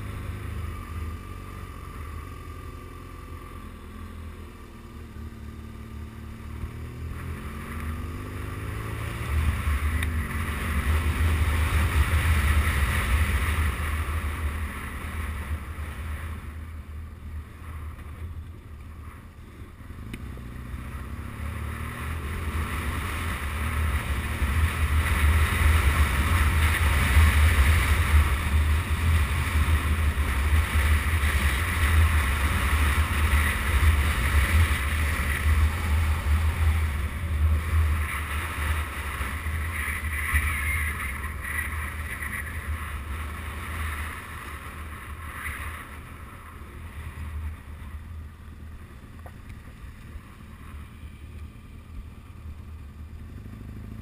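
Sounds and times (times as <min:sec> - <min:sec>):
motorcycle engine: 0:00.0 - 0:54.0.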